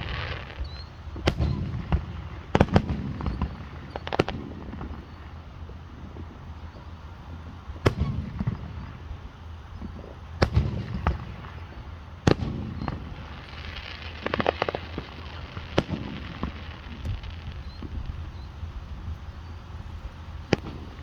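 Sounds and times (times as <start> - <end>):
fireworks bangs: 0.0 - 21.0
fireworks crackling pops: 0.0 - 21.0.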